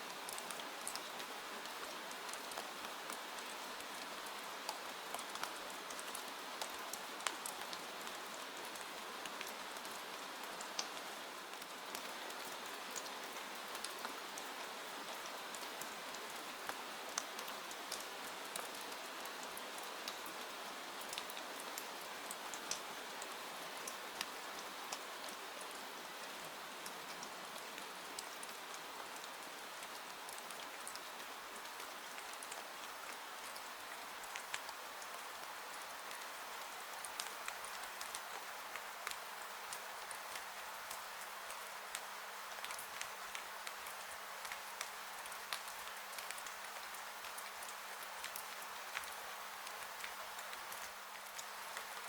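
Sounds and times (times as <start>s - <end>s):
rain hiss: 0.0s - 52.0s
raindrops ticking close by: 0.1s - 52.0s.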